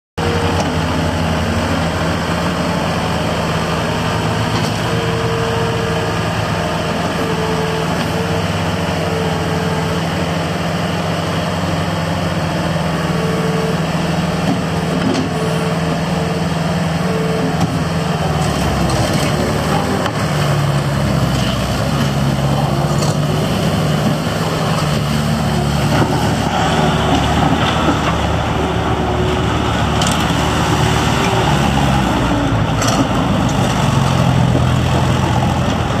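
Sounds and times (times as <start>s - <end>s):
diesel engine running: 0.2s - 36.0s.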